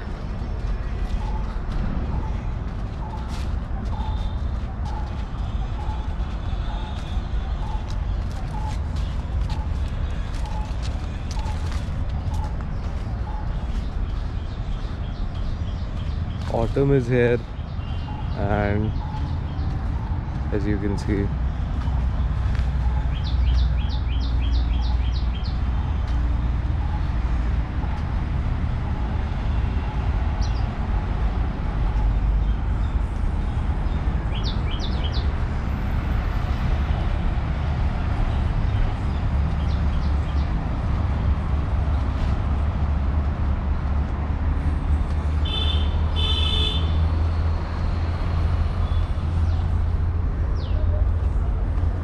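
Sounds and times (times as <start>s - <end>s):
birds chirping: 0.0s - 42.7s, 44.6s - 51.4s.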